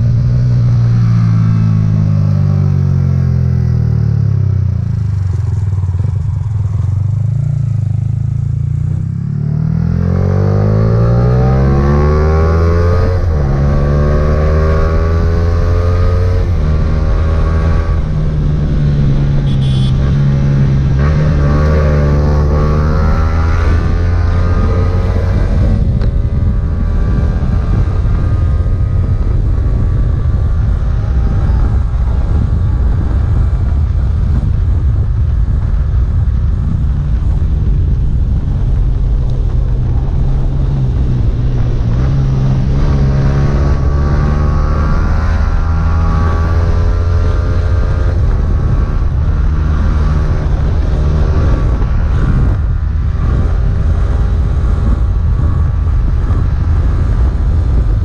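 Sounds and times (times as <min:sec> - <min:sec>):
motorcycle engine running: 0:00.0 - 0:58.0
wind and road rush: 0:00.0 - 0:58.0.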